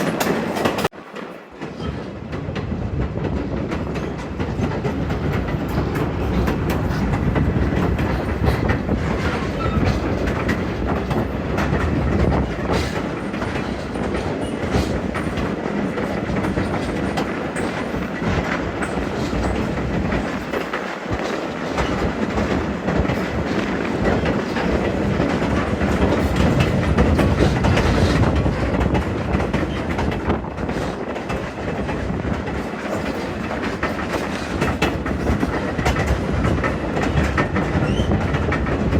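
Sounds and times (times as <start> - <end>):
train rumbling on track: 0.0 - 38.9
wheels clicking on rails: 0.0 - 38.9.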